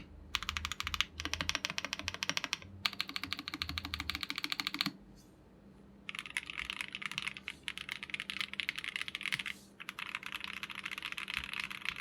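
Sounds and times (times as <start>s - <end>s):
fast mechanical keyboard typing: 0.0s - 5.0s, 6.1s - 12.0s.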